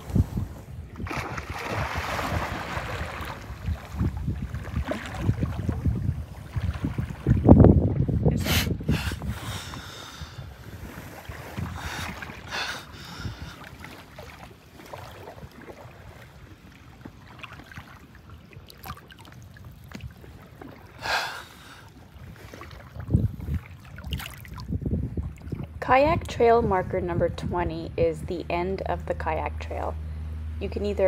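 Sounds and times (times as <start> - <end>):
small waves lapping against kayak: 0.0 - 25.9.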